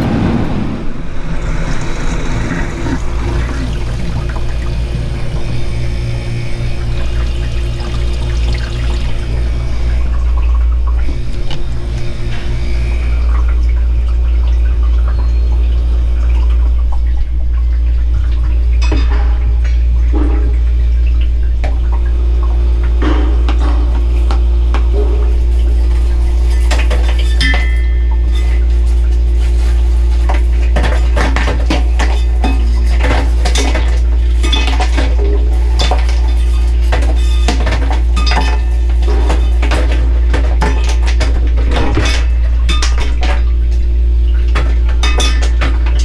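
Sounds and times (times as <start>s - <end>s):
ice machine humming: 0.0s - 46.0s
water running and splashing: 0.0s - 46.0s.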